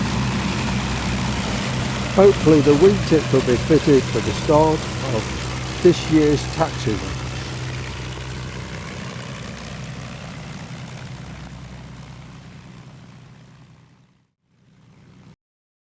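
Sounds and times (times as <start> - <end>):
propeller aircraft engines: 0.0 - 14.2.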